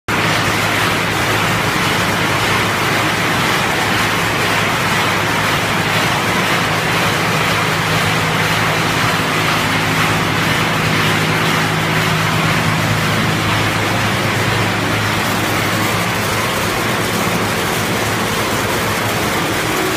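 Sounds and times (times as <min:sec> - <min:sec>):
machine hum: 0:00.1 - 0:19.9.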